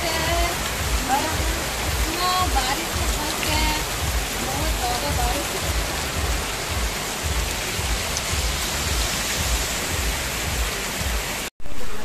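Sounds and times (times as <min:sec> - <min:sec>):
low rumbling: 0:00.0 - 0:11.4
heavy rain on a road: 0:00.0 - 0:12.0.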